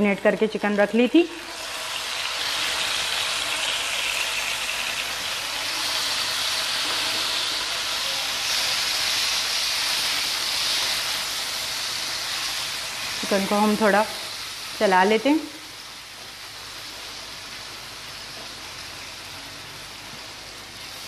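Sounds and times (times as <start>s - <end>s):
chicken sizzling in oil: 0.5s - 21.0s.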